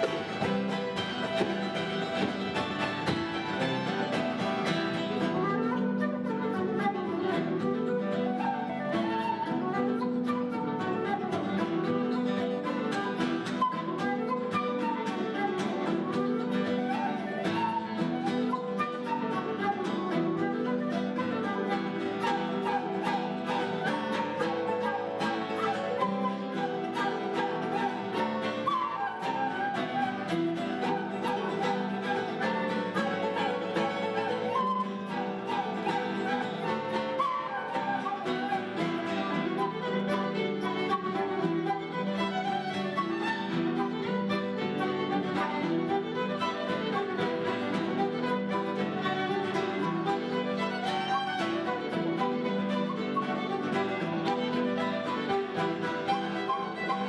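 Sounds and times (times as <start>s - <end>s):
acoustic guitar: 0.0s - 57.0s
fiddle melody: 0.0s - 57.0s
flute melody: 0.0s - 57.0s
harp: 0.0s - 57.0s.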